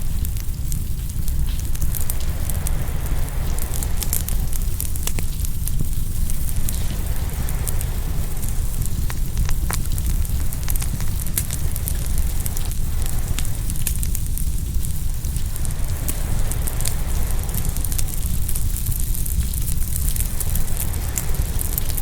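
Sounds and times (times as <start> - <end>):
bonfire crackling and popping: 0.0 - 22.0
low rumble: 0.0 - 22.0
waves washing ashore: 1.3 - 22.0.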